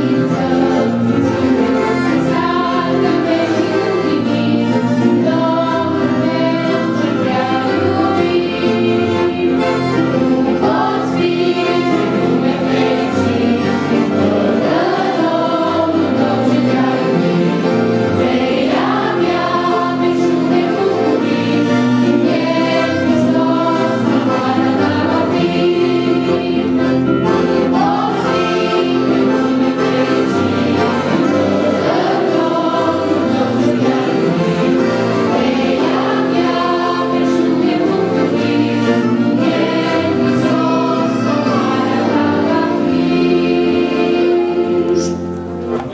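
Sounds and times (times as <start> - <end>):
accordion: 0.0 - 45.9
group singing a hymn: 0.0 - 45.9.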